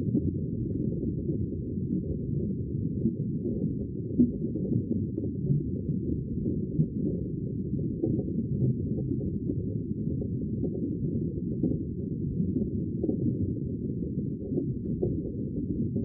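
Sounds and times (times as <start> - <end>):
muffled low rumble of sea water: 0.0 - 16.0.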